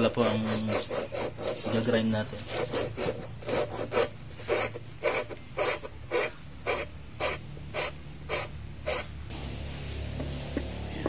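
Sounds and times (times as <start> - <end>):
valve grinding gritty scraping: 0.0 - 11.0.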